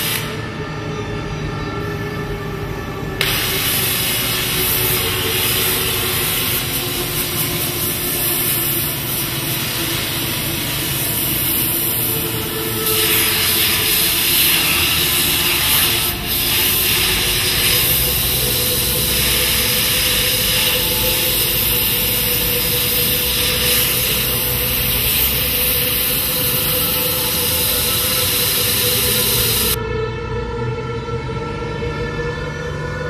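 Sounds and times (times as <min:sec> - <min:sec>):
gas torch flame hissing: 0:00.0 - 0:00.4, 0:03.2 - 0:29.8
steady hum: 0:01.8 - 0:29.9.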